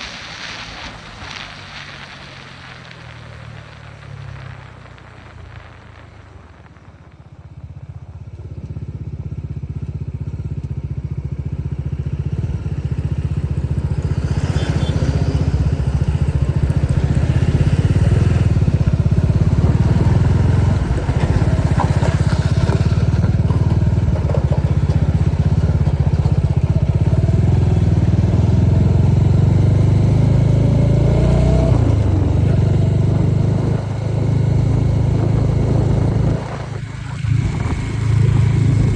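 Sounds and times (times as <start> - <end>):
motorcycle engine deep drone: 4.7 - 38.9.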